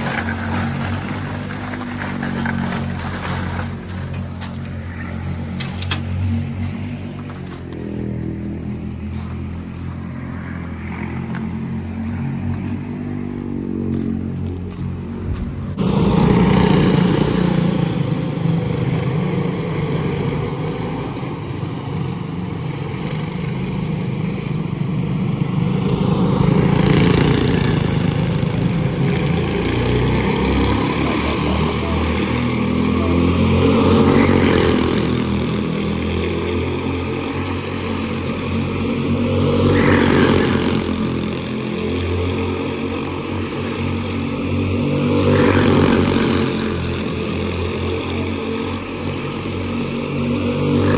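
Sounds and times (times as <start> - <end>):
small race car engines racing: 0.0 - 14.6, 15.7 - 50.9.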